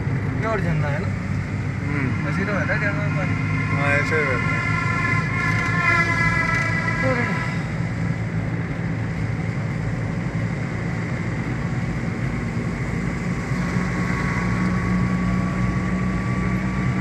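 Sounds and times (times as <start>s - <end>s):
car cabin engine and road noise: 0.0s - 17.0s.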